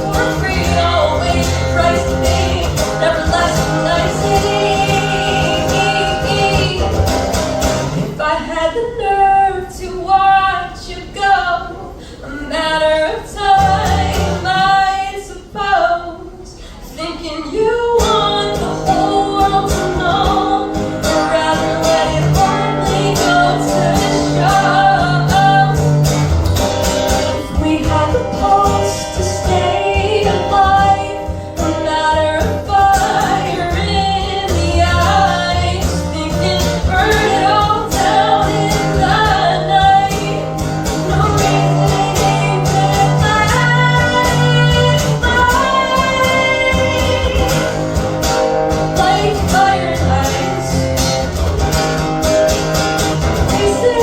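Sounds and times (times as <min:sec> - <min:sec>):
person singing: 0:00.0 - 0:07.3, 0:08.2 - 0:26.3, 0:27.3 - 0:50.9, 0:53.4 - 0:54.0
guitar: 0:00.0 - 0:54.0.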